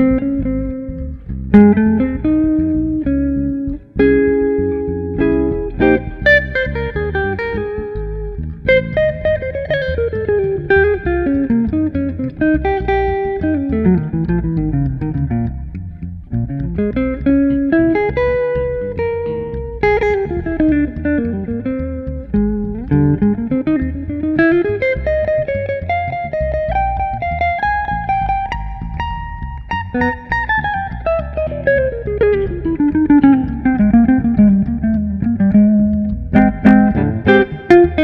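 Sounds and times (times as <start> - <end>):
electric bass line: 0.0 - 38.0.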